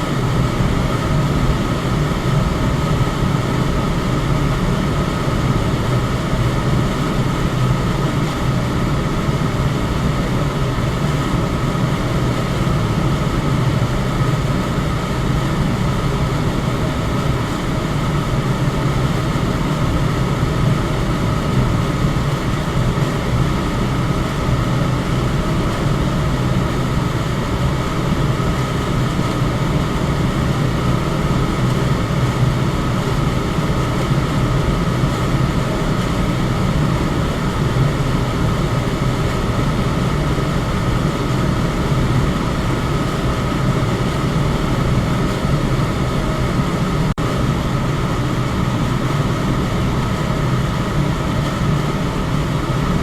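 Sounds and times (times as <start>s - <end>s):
electric fan running: 0.0s - 53.0s.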